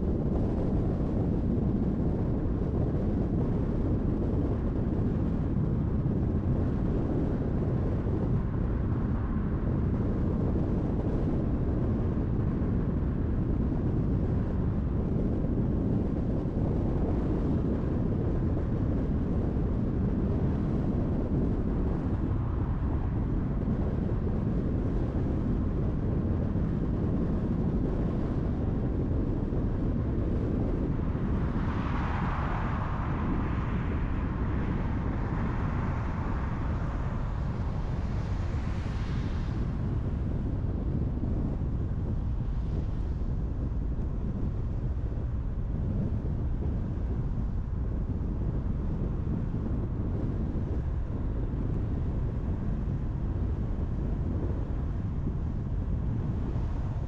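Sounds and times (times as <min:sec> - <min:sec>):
road and tyre noise: 0:00.0 - 0:57.0.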